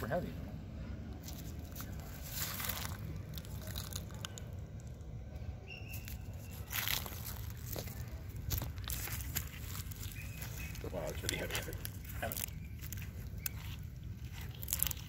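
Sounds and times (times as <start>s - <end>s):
rope scraping over concrete: 1.2s - 4.3s, 6.0s - 15.0s
rustling waterweed: 1.2s - 4.6s, 6.0s - 15.0s.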